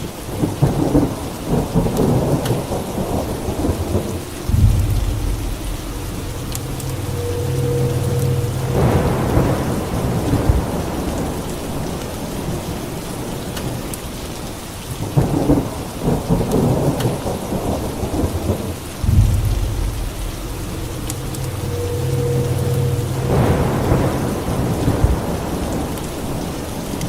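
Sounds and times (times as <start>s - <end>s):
steady rain: 0.0s - 27.0s
thunder rumbling: 0.4s - 13.3s, 15.2s - 27.0s.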